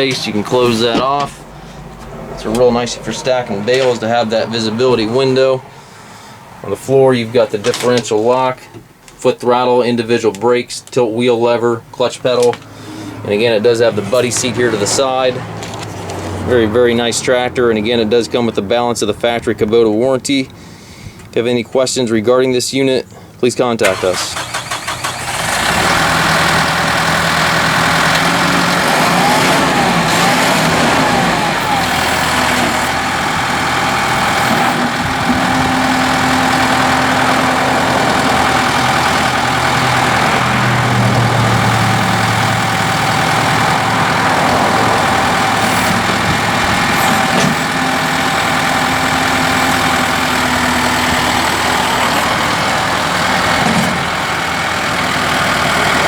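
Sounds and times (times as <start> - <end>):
tractor diesel engine idling: 0.0 - 21.4, 23.2 - 56.0.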